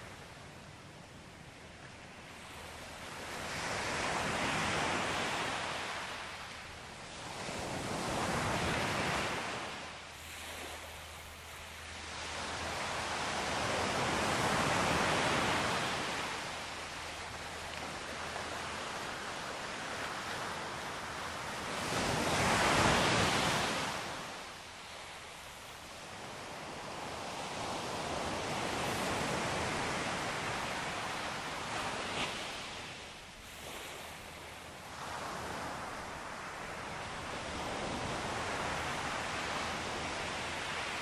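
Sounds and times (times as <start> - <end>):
sea waves washing onto shore: 2.3 - 41.0.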